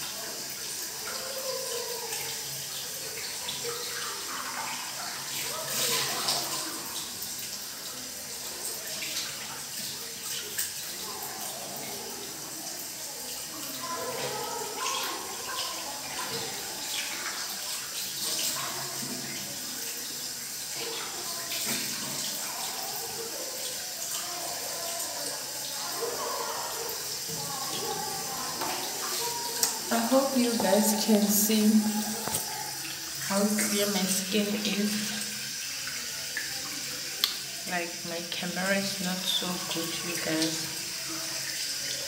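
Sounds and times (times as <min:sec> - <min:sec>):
tap water running into sink: 0:00.0 - 0:42.0.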